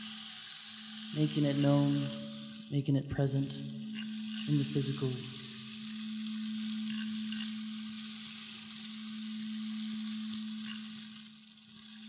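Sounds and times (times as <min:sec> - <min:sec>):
rainstick pellets trickling: 0:00.0 - 0:12.0
singing bowl ringing tone: 0:00.0 - 0:12.0.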